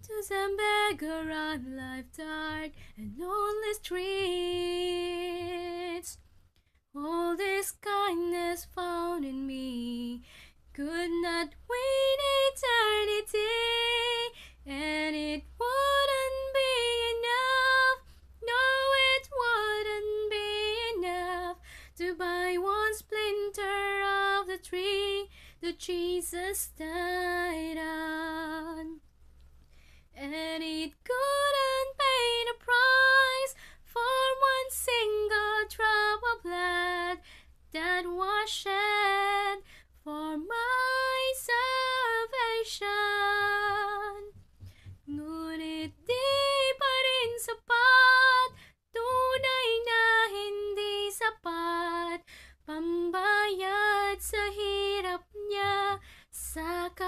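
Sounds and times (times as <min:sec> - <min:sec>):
woman singing unaccompanied: 0:00.0 - 0:06.2, 0:07.0 - 0:29.0, 0:30.2 - 0:44.4, 0:45.0 - 0:57.0.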